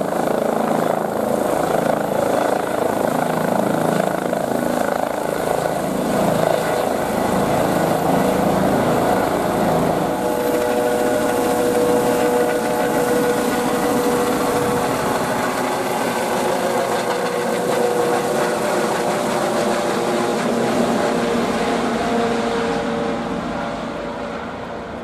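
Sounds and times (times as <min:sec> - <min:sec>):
helicopter rotor noise: 0:00.0 - 0:25.0
helicopter turbine whine: 0:00.0 - 0:25.0.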